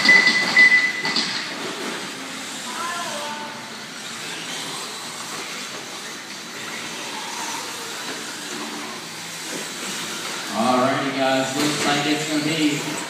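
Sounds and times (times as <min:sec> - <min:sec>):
rc trucks whirring: 0:00.0 - 0:13.0.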